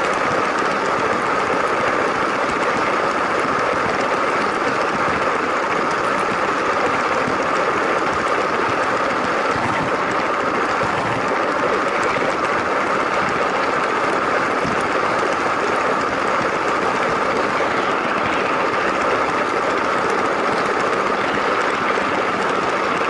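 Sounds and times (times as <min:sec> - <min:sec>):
plastic wheels rolling on track: 0:00.0 - 0:23.0.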